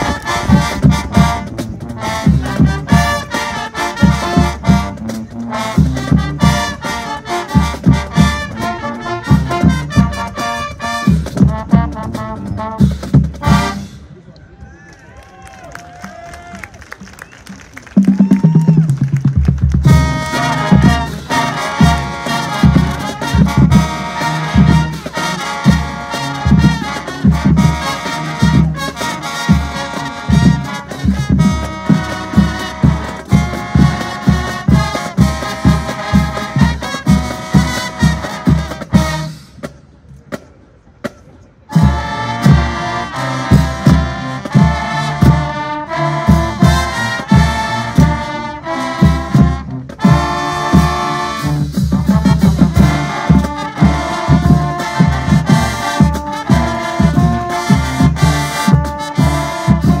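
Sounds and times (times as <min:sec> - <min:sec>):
marching band playing: 0:00.0 - 0:14.2, 0:15.7 - 1:00.0.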